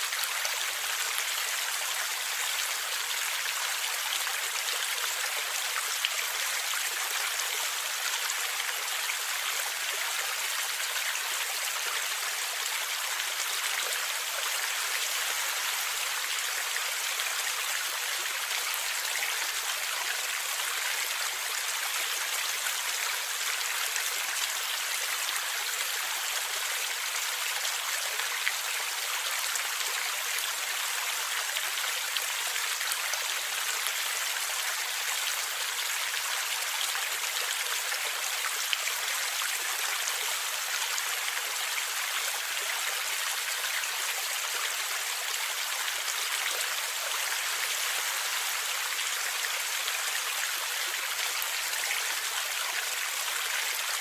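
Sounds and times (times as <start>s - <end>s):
stream flowing and gurgling: 0.0s - 54.0s.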